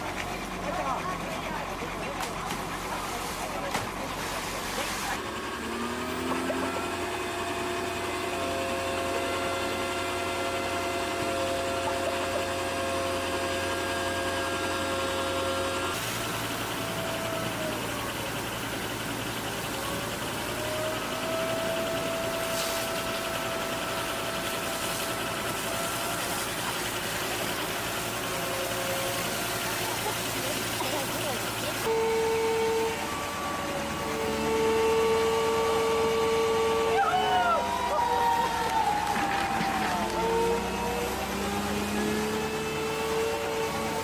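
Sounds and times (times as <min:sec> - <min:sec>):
engine-like hum: 0:00.0 - 0:44.0.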